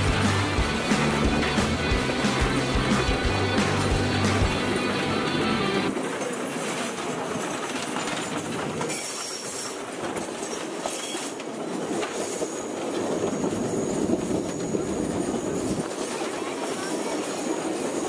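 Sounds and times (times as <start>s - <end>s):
train wheels rattling on rails: 0.0s - 18.0s.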